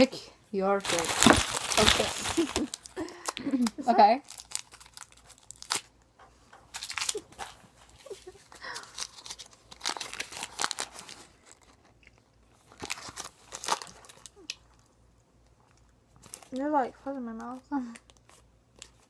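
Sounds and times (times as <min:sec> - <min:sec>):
wrapper crinkling: 0:00.8 - 0:06.0, 0:06.7 - 0:14.9, 0:15.7 - 0:19.0.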